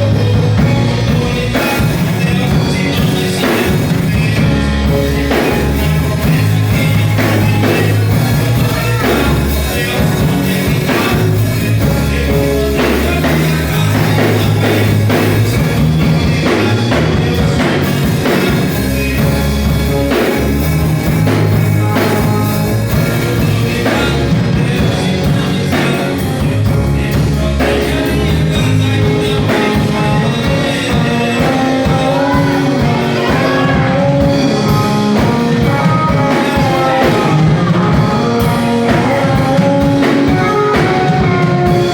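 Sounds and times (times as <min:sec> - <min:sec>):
band playing upbeat song: 0:00.0 - 0:41.9
person singing: 0:00.0 - 0:41.9.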